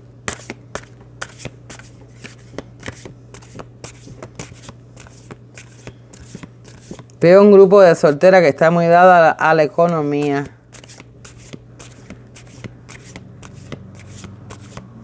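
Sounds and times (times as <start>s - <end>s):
cards being shuffled: 0.3s - 7.2s, 9.9s - 15.0s.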